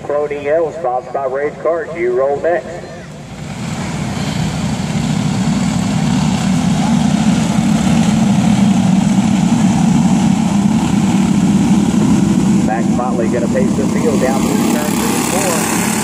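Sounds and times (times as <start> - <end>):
racing kart engines droning: 0.0 - 16.0.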